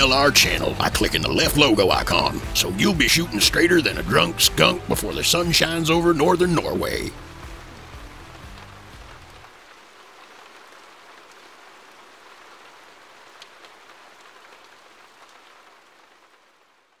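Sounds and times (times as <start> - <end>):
raindrop ticks: 0.0 - 16.4
rain falling: 0.0 - 17.0.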